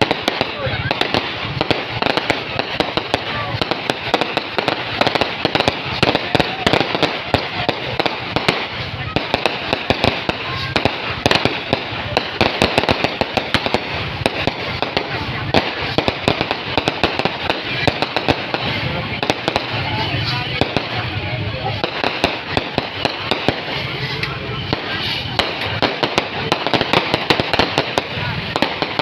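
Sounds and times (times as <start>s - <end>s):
faint voices: 0.0s - 29.0s
fireworks cracking and popping: 0.0s - 29.0s.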